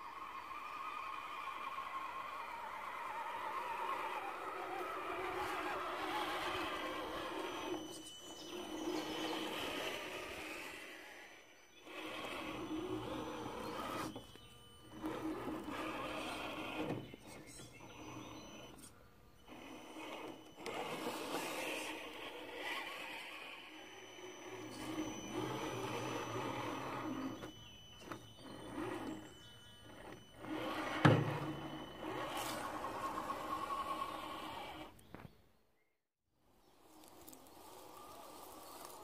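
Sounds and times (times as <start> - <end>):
toy car motor and gears whining: 0.0 - 35.2, 36.8 - 39.0.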